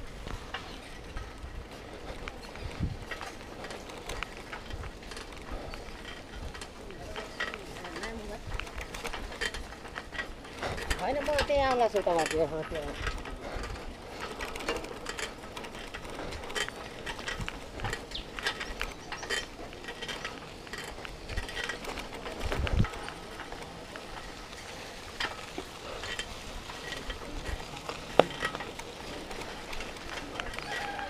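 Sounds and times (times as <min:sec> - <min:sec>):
bicycle rattling: 0:00.0 - 0:31.0.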